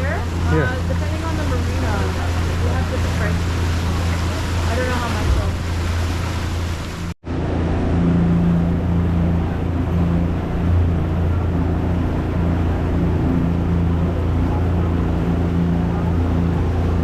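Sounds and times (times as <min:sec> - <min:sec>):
ferry engine droning: 0:00.0 - 0:17.0.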